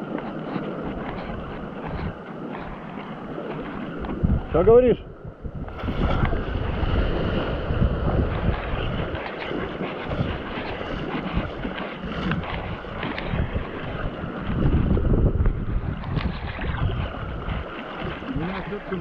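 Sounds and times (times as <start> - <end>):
water splashing around boat: 0.0 - 19.0
wind buffeting microphone: 0.0 - 19.0.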